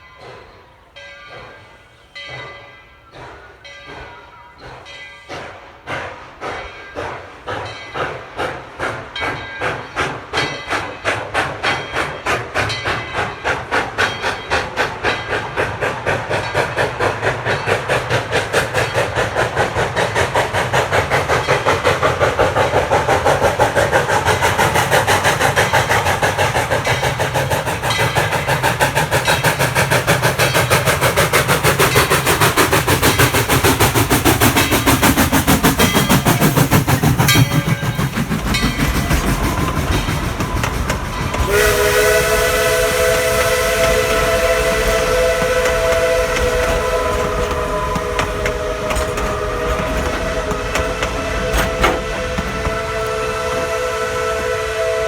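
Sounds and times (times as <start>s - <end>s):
steam locomotive exhaust chuffs: 0.0s - 55.0s.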